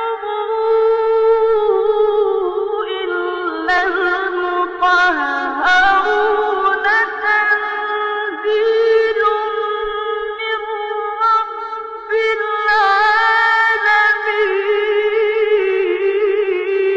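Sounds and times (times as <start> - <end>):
person reciting melodically: 0.0 - 16.9.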